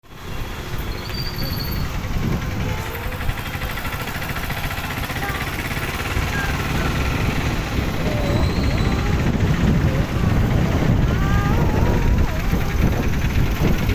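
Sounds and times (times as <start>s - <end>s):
low rumble: 1.6s - 13.9s.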